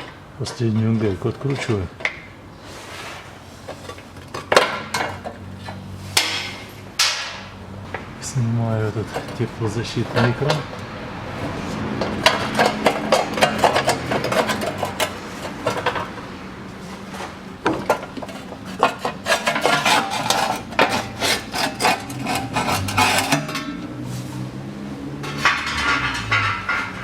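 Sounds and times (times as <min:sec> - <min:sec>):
metal heat shield scraping and rattling: 0:02.6 - 0:07.4, 0:08.2 - 0:10.8, 0:11.4 - 0:27.0.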